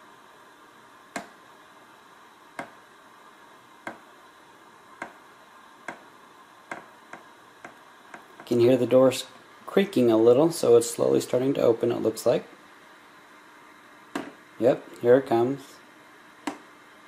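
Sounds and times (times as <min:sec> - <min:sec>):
drying fan running: 0:00.0 - 0:17.0.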